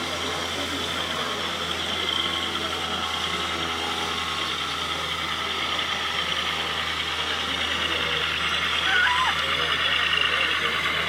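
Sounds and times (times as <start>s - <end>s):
simulated diesel truck engine: 0.0s - 11.0s.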